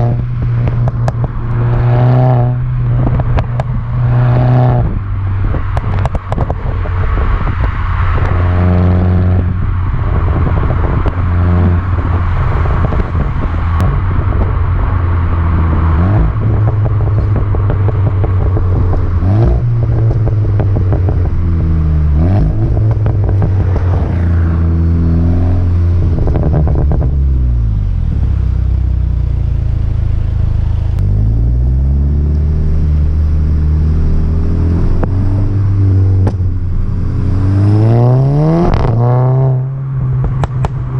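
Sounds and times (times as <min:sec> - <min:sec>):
car engine revving: 0:00.0 - 0:40.9
exhaust crackles and pops: 0:00.0 - 0:40.9.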